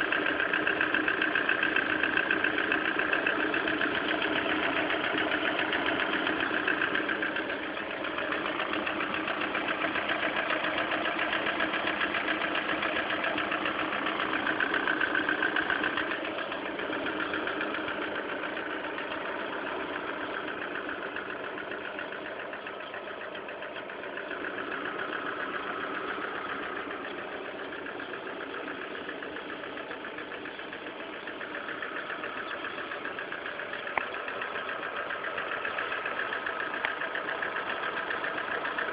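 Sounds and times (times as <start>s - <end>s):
car engine running: 0.0s - 38.9s
rapid clattering tick: 0.0s - 38.9s.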